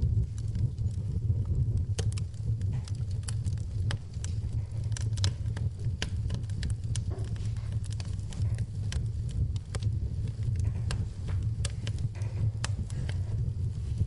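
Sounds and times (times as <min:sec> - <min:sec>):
fire crackling and popping: 0:00.0 - 0:14.0
fire low rumble: 0:00.0 - 0:14.0.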